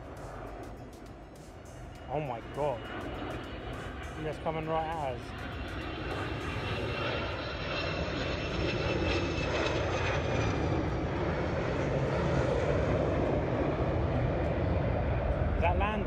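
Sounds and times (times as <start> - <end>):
high jet whine: 0.0 - 16.0
jet rumble: 0.0 - 16.0.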